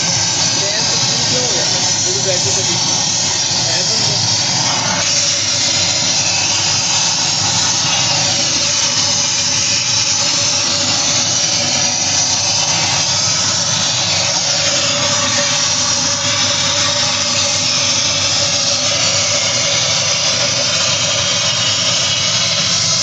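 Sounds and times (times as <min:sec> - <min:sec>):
gas torch flame hissing: 0:00.0 - 0:23.0.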